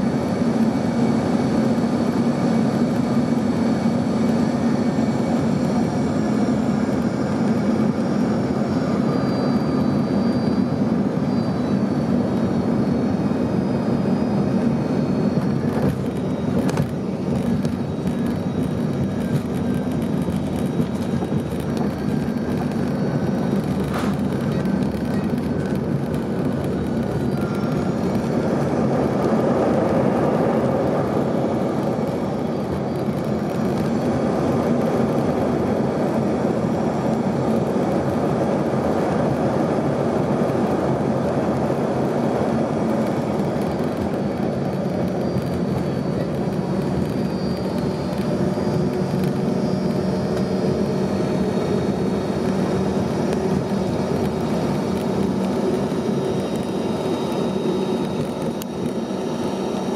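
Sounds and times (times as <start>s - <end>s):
high engine whine: 0.0s - 59.9s
jet engine rumble in cabin: 0.0s - 59.9s.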